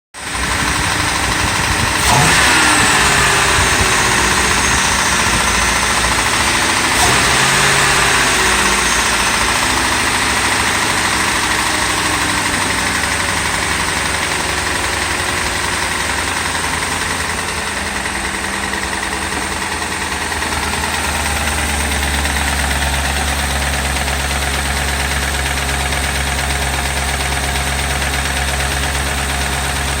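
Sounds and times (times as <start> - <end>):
car engine revving and idling: 0.2 - 30.0
engine knock: 0.2 - 30.0.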